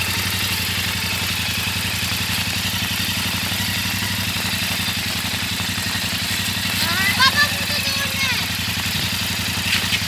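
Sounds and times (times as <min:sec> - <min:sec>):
motorcycle engine idling: 0:00.0 - 0:10.0
rain hiss on wet road: 0:00.0 - 0:10.0.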